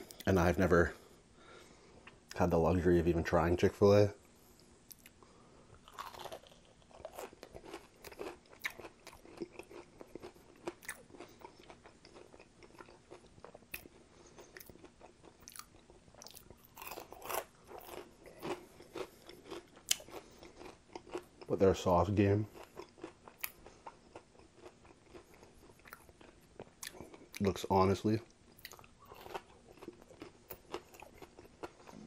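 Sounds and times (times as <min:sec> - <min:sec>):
crunching and chewing fried food: 0:04.4 - 0:32.0.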